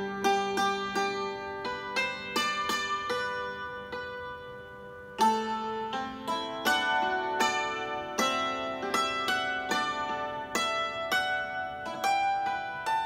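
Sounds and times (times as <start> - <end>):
hammered dulcimer melody: 0.0 - 13.0.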